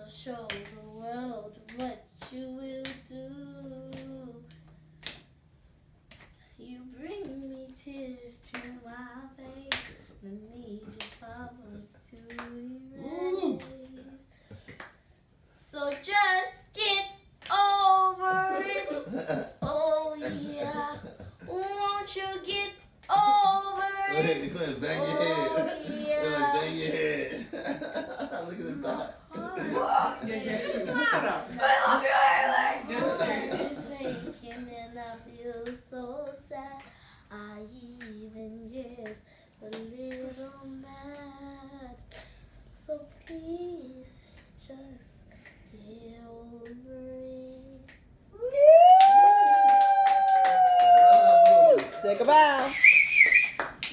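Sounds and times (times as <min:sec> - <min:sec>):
girl singing: 0:00.0 - 0:04.7, 0:06.6 - 0:14.4, 0:15.6 - 0:27.2, 0:29.3 - 0:48.5.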